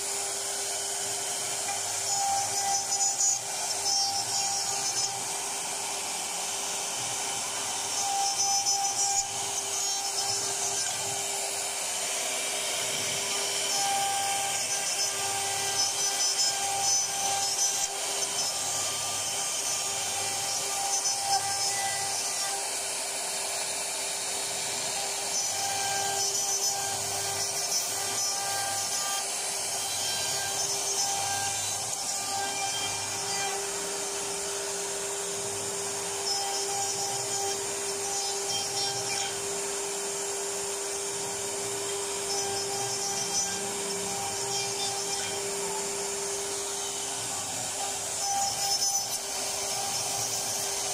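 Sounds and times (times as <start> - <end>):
router bit cutting wood: 0.0 - 50.9
wood router spindle whine: 0.0 - 50.9.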